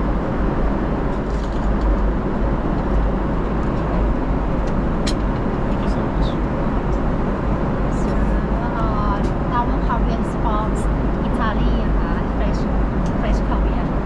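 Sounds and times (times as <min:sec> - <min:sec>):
airplane cabin engine rush: 0:00.0 - 0:14.0.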